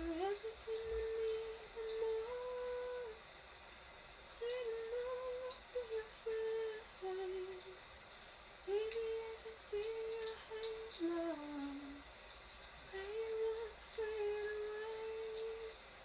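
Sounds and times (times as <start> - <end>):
woman humming a melody: 0.0 - 3.2, 4.3 - 8.0, 8.7 - 12.0, 12.9 - 15.8.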